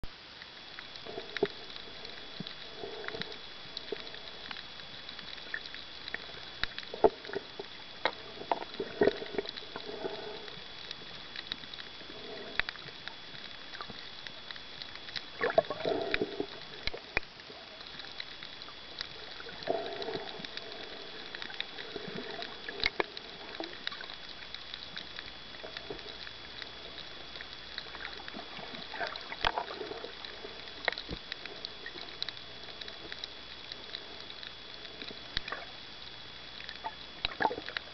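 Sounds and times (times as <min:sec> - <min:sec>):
faint high whine: 0:00.0 - 0:37.9
steady hiss: 0:00.0 - 0:37.9
underwater clicks and crackles: 0:00.0 - 0:37.9
water movement swells: 0:00.1 - 0:37.9.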